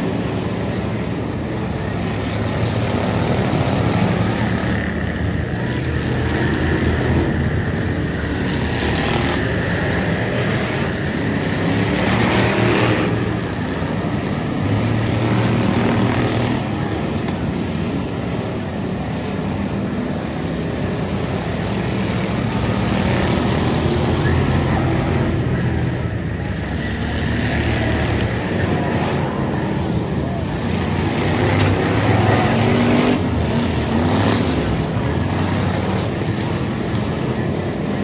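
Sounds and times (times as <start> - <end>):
race car engines droning: 0.0 - 38.0.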